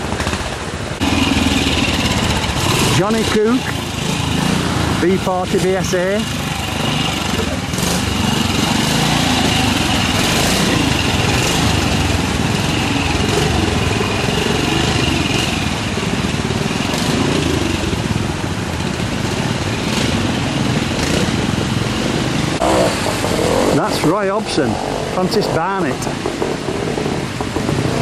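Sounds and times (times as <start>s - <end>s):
motorcycle engine running: 0.0s - 28.0s
stream water rushing: 0.0s - 28.0s.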